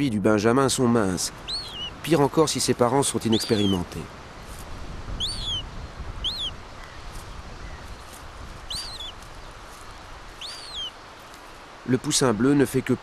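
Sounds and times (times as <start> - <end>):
gull chicks peeping: 1.1 - 11.7.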